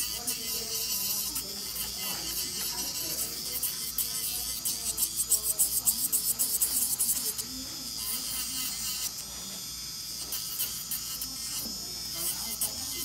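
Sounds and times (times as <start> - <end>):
electric nail drill whirring: 0.0 - 13.0.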